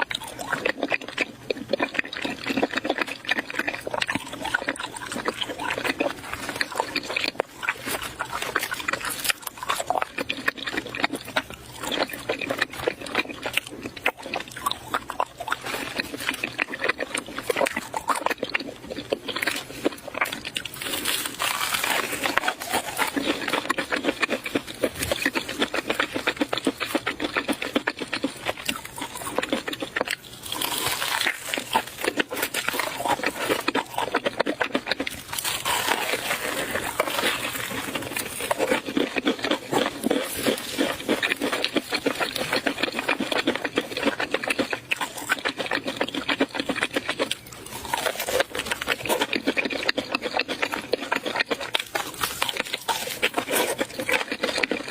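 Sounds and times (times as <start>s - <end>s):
wet chewing and mouth smacking: 0.0s - 54.9s.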